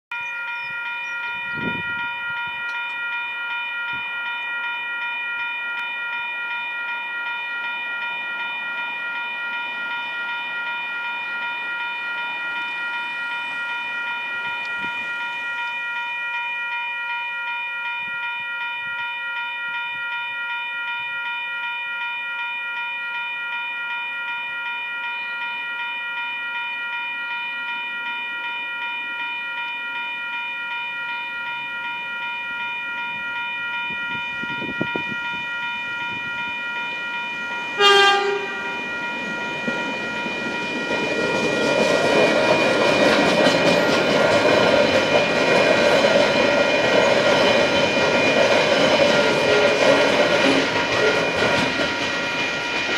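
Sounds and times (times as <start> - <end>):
level crossing warning bells: 0.1 - 52.9.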